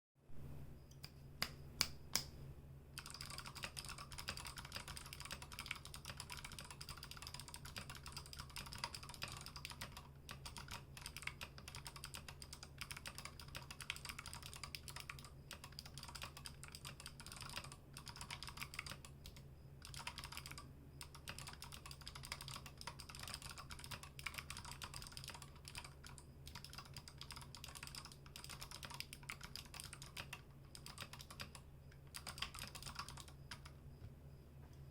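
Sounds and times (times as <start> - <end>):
steady low hum: 0.2 - 34.9
mechanical keyboard typing: 3.0 - 33.8.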